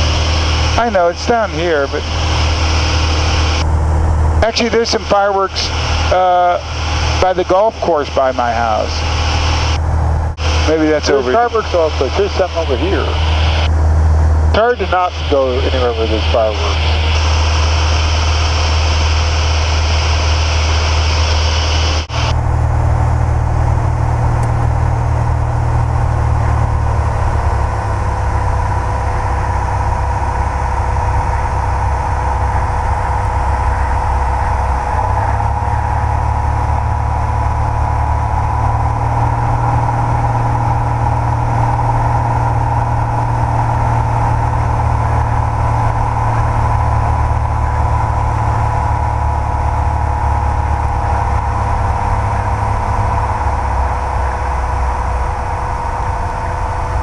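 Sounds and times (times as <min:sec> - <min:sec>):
propeller plane droning in flight: 0:00.0 - 0:57.0.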